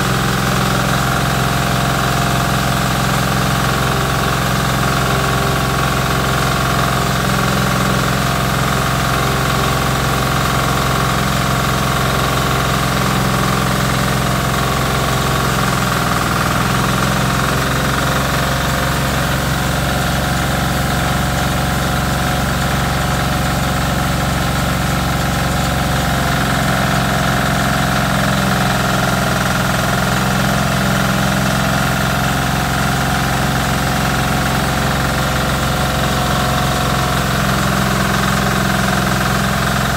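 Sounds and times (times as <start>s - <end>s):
rice mill hum and rattle: 0.0s - 39.9s
small engine running under load: 0.0s - 39.9s.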